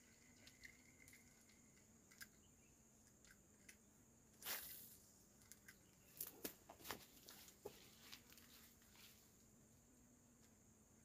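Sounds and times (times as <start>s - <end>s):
faint steady high hum: 0.0s - 11.0s.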